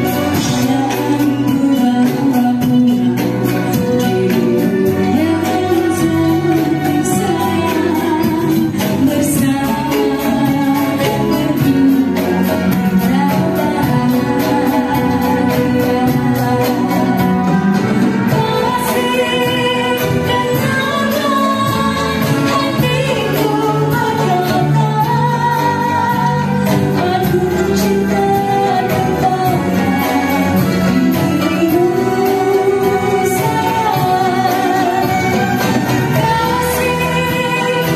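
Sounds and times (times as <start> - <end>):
live band strings and percussion: 0.0 - 37.9
woman singing into a microphone: 0.0 - 37.9.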